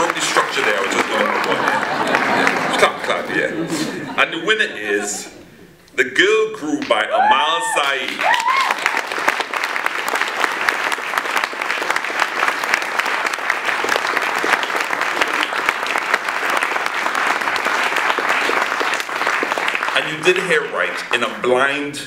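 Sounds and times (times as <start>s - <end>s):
audience applauding: 0.0s - 3.3s, 6.9s - 21.4s.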